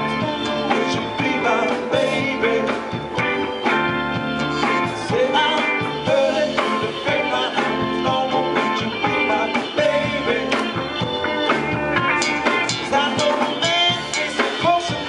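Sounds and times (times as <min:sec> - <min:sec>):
bass guitar: 0:00.0 - 0:15.0
drums: 0:00.0 - 0:15.0
keyboards: 0:00.0 - 0:15.0
pitch-bending melody line: 0:00.0 - 0:15.0.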